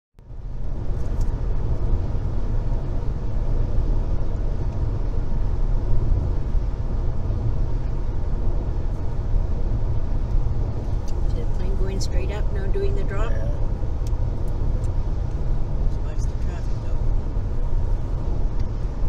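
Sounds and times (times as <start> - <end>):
car cruising rumble: 0.2 - 19.0.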